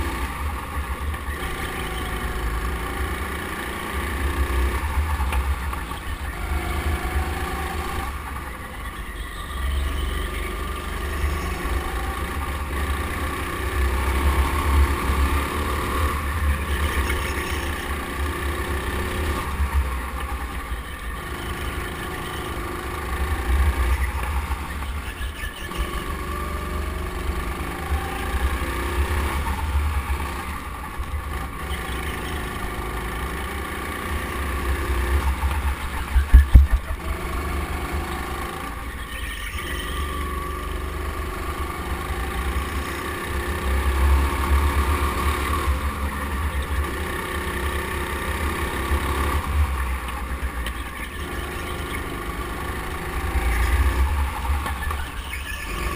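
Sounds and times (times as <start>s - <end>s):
go-kart engine: 0.0s - 55.9s.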